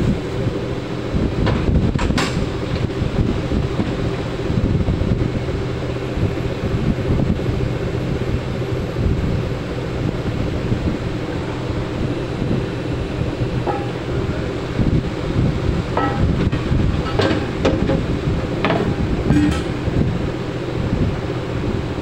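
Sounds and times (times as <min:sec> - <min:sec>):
industrial fan running: 0:00.0 - 0:22.0.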